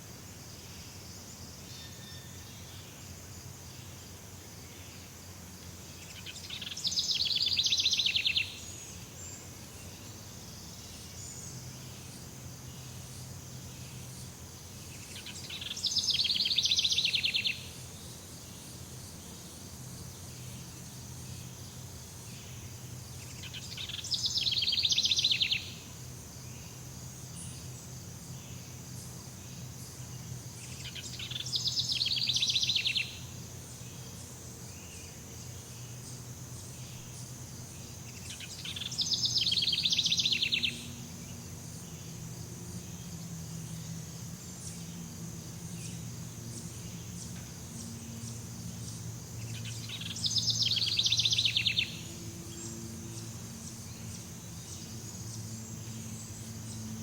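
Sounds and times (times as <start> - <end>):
insect buzz: 0.0 - 57.0.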